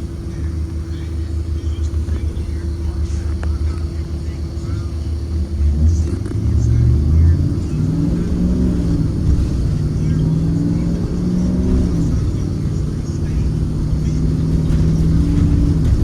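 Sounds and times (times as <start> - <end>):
bus engine droning: 0.0 - 16.0
faint voices: 0.0 - 16.0.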